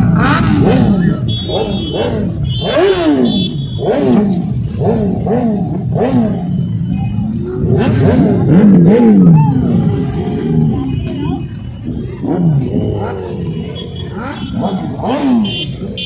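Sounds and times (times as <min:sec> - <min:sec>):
motorcycle engines revving: 0:00.0 - 0:16.0
motorcycles idling: 0:00.0 - 0:16.0.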